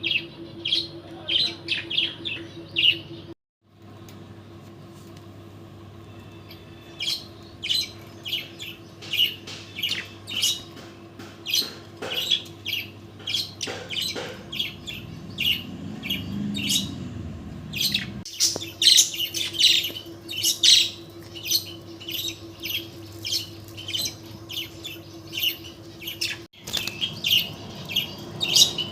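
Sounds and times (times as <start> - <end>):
bird chirping and squawking: 0.0 - 3.3, 6.2 - 10.8, 11.4 - 28.9
steady low hum: 0.0 - 28.9.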